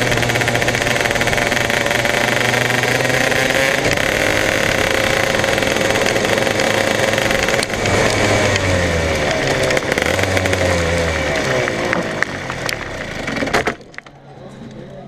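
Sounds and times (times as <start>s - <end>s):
kart engine revving down: 0.0s - 13.9s.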